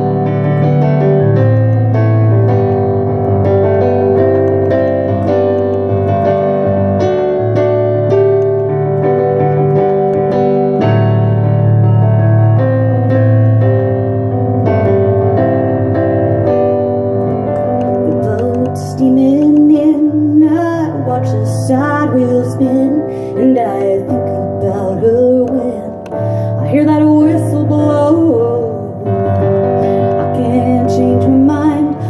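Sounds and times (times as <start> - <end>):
piano playing chords and melody: 0.0 - 32.0.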